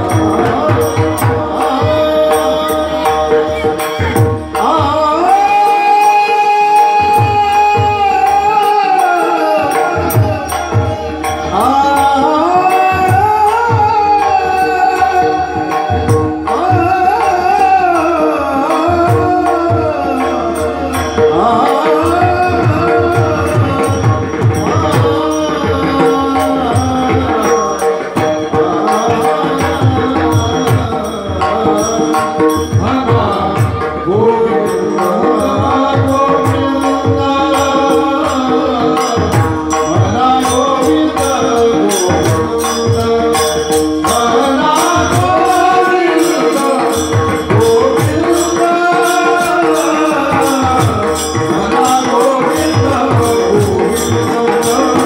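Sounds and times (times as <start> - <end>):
drumming: 0.0 - 55.0
harmonium: 0.0 - 55.0
men singing devotional song: 0.0 - 55.0.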